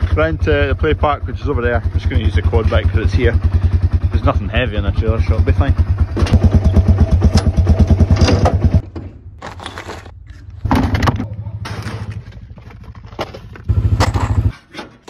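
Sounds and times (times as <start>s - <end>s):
quad bike engine running: 0.0s - 8.8s, 10.6s - 14.6s.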